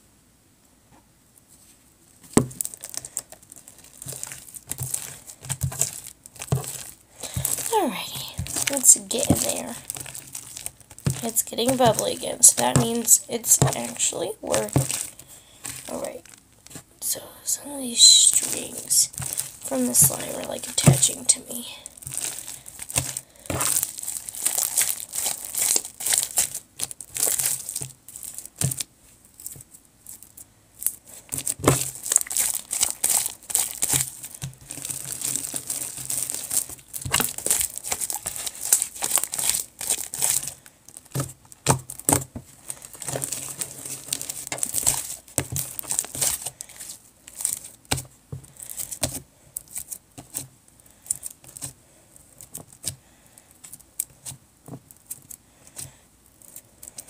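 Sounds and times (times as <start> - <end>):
slime crackling and popping: 2.1 - 57.0.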